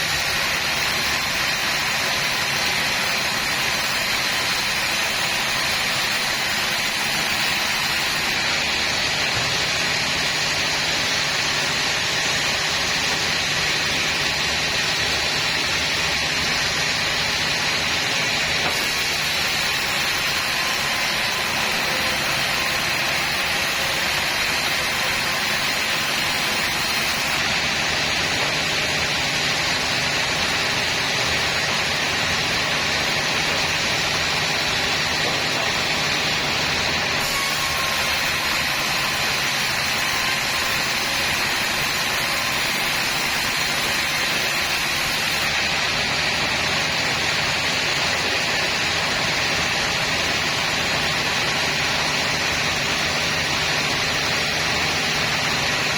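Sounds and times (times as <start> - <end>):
sawmill saw and engine droning: 0.0 - 55.9.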